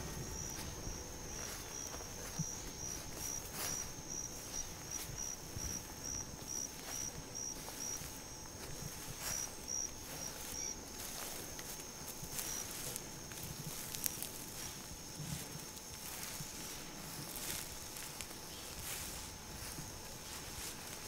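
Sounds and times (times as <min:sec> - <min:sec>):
footsteps through wet grass: 0:00.0 - 0:21.0
insect chirping: 0:00.0 - 0:21.0.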